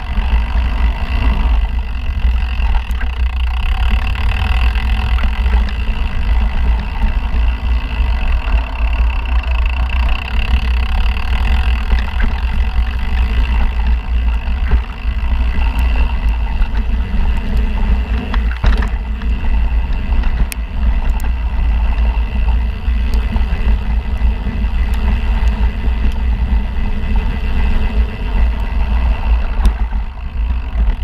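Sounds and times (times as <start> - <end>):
bike rattle and tyre noise: 0.0 - 31.0
wind rumble on microphone: 0.0 - 31.0.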